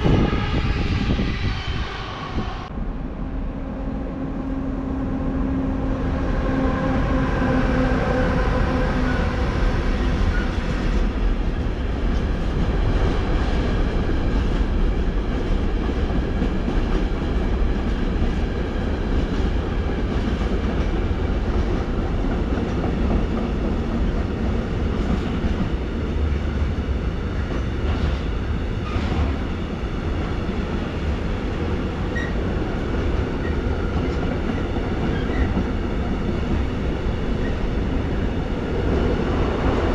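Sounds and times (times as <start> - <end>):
train drive whine: 0.0 - 39.9
train wheels rumbling on track: 0.0 - 39.9.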